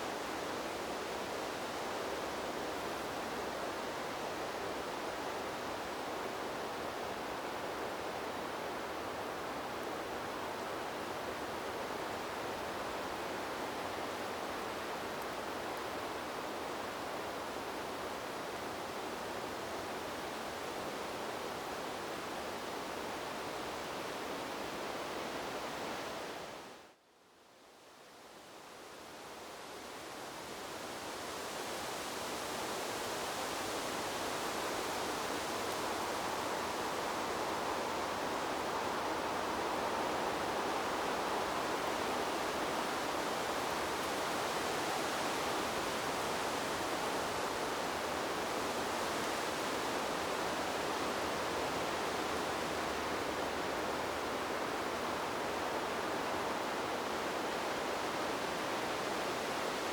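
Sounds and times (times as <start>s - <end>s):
wind blowing through trees: 0.0s - 59.9s.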